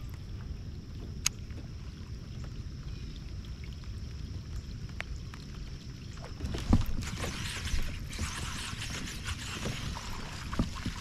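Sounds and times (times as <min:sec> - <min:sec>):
water splashing: 0:00.0 - 0:11.0
wind rumble on microphone: 0:00.0 - 0:11.0.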